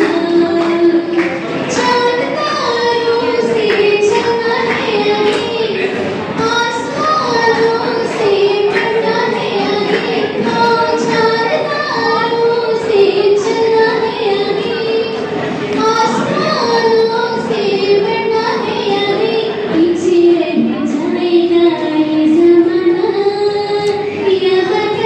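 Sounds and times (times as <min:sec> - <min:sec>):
woman singing slow song: 0:00.0 - 0:15.2, 0:15.8 - 0:25.0.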